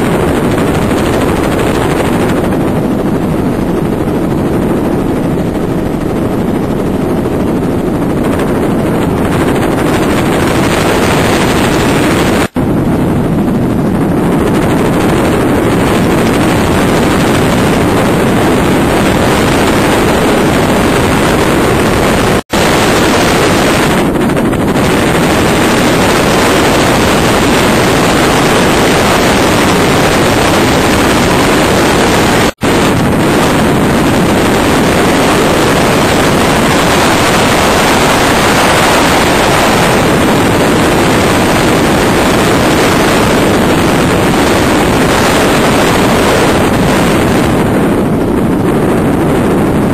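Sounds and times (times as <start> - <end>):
helicopter rotor and engine noise: 0.0 - 49.9.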